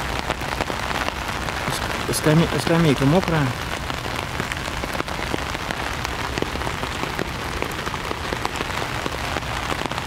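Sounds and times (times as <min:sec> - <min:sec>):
heavy rain falling: 0:00.0 - 0:10.0
raindrops ticking on umbrella: 0:00.0 - 0:10.0.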